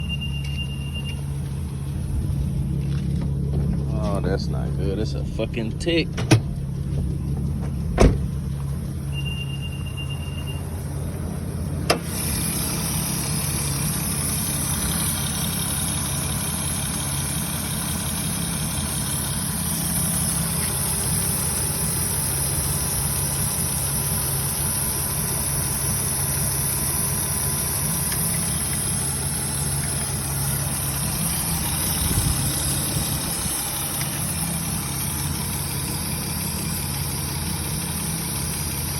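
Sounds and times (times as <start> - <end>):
car engine idling with tick: 0.0 - 38.9.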